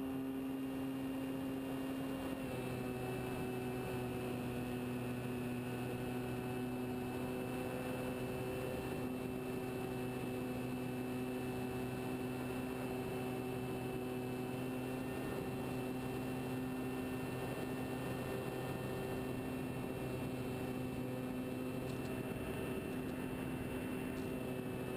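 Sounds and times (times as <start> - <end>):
model plane propeller drone: 0.0 - 24.9.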